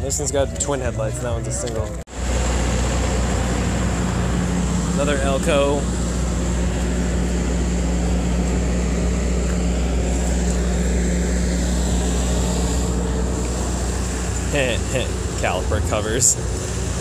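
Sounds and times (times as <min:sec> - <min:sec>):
low mechanical drone with whine: 0:00.0 - 0:17.0.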